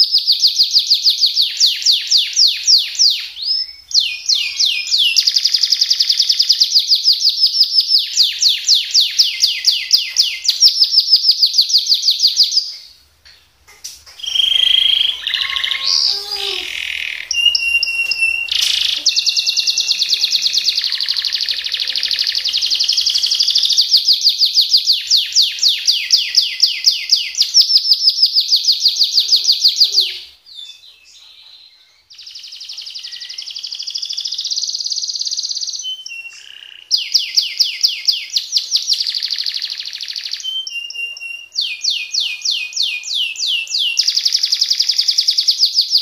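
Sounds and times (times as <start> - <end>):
canary singing rolling trills: 0.0 - 46.0.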